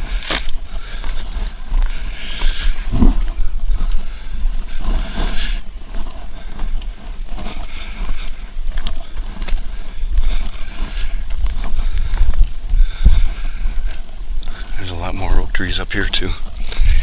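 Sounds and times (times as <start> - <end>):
microphone cord rubbing: 0.0 - 13.8
man breathing heavily: 0.0 - 17.0
wind rumble on microphone: 0.0 - 17.0.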